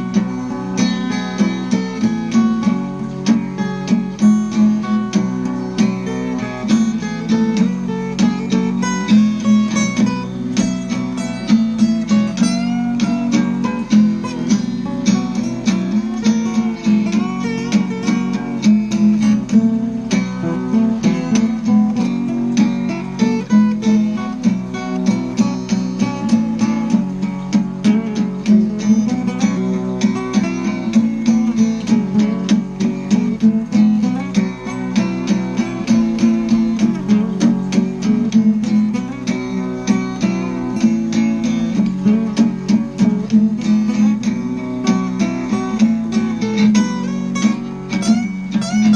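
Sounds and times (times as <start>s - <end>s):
acoustic guitar plucked and strummed: 0.0s - 48.9s.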